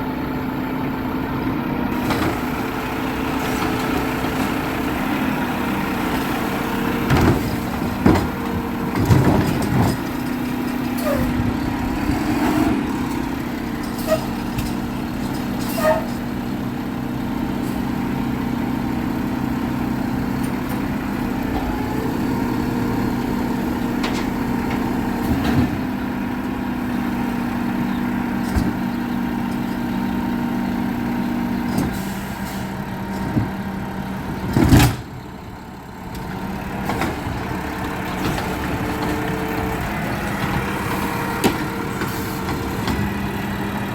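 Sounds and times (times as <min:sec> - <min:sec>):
diesel engine running: 0:00.0 - 0:43.9
clunks and knocks: 0:02.0 - 0:16.5, 0:20.3 - 0:30.1, 0:31.5 - 0:43.4.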